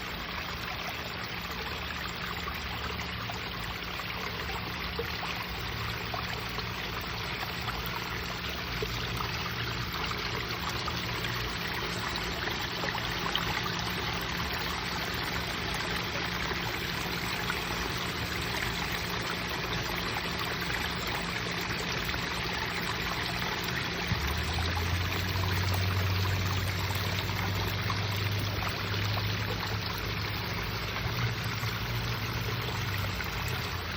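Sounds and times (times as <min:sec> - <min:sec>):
water pouring and splashing: 0:00.0 - 0:33.9.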